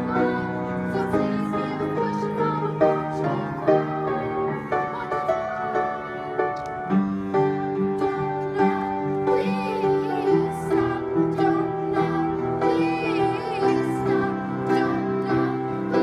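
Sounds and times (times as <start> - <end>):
girl singing: 0.0 - 6.3, 8.0 - 16.0
upright piano accompaniment: 0.0 - 16.0.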